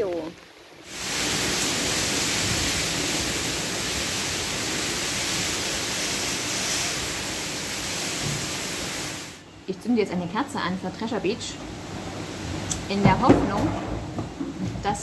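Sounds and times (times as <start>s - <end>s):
heavy rain pouring with wind: 0.0s - 9.5s, 10.9s - 15.0s.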